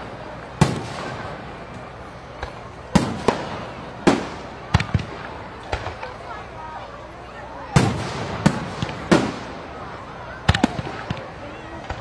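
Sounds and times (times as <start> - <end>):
fireworks bangs: 0.0 - 7.0, 7.6 - 12.0
fireworks crackling: 0.0 - 12.0.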